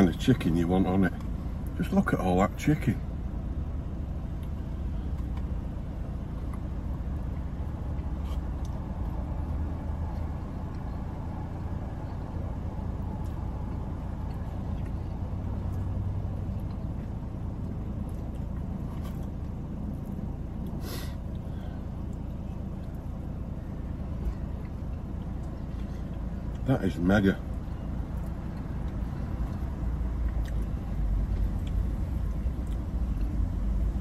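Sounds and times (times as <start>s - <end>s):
low vehicle rumble: 0.0s - 34.0s.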